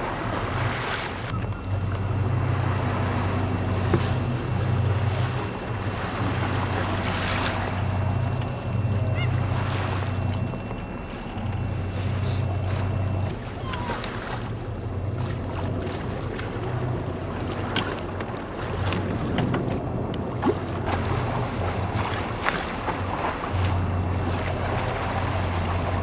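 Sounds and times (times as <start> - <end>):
boat engine humming: 0.0 - 26.0
sea wash: 0.0 - 26.0
wind buffeting microphone: 0.0 - 26.0.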